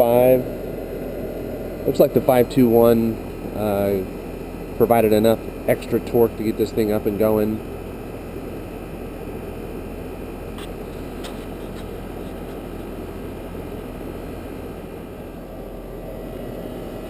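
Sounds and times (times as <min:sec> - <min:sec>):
compressor humming: 0:00.0 - 0:17.0
fan rushing air: 0:00.0 - 0:17.0.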